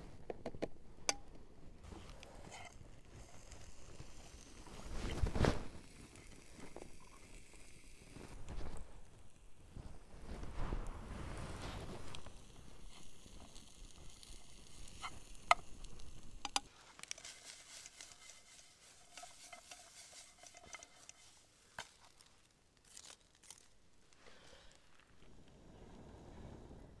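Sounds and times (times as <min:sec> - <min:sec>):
crinkling: 0:00.0 - 0:26.0
faint hiss: 0:01.6 - 0:27.0.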